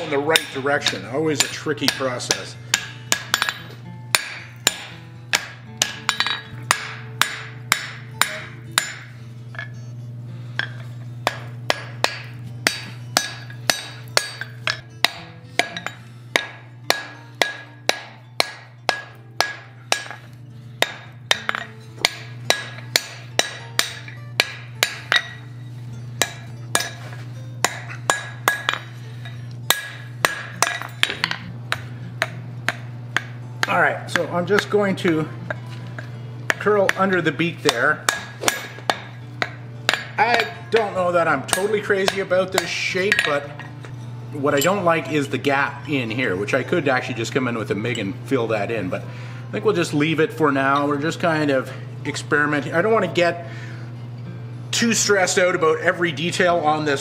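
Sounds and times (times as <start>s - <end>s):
hammer striking steel on anvil: 0.0s - 9.9s, 10.5s - 48.0s
steady low hum: 0.0s - 57.0s.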